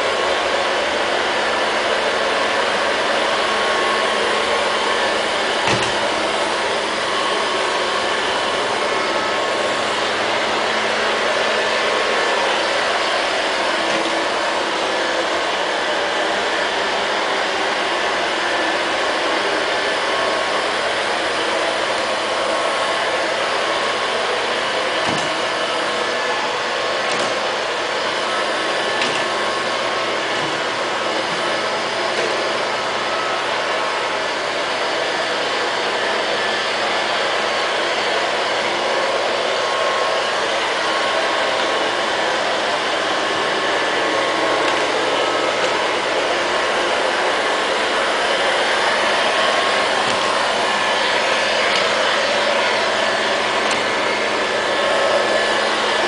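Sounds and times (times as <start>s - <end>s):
robot vacuum cleaner whirring: 0.0s - 56.0s.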